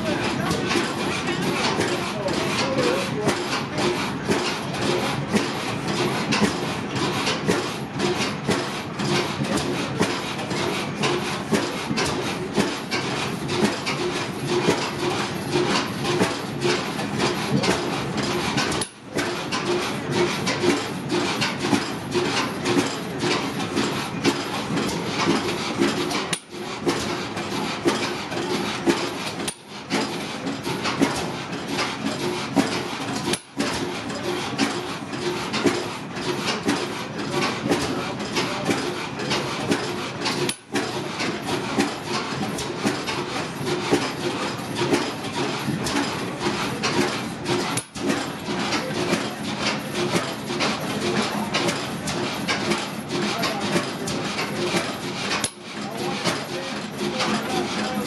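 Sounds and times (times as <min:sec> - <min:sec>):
stationary engines clattering: 0:00.0 - 0:58.0.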